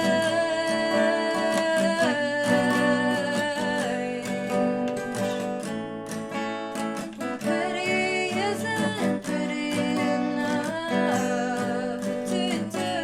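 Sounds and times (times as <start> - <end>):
person singing wordless line: 0.0 - 5.7, 7.2 - 13.0
acoustic guitar strummed: 0.0 - 13.0.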